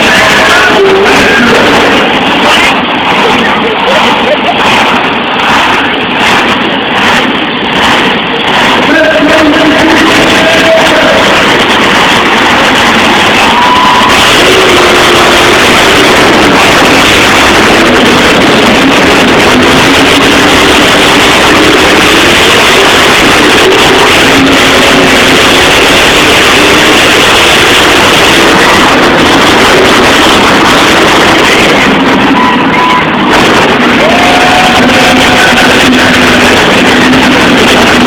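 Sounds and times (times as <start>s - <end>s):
loud arena music: 0.0s - 38.0s
monster truck engines revving: 0.0s - 38.0s.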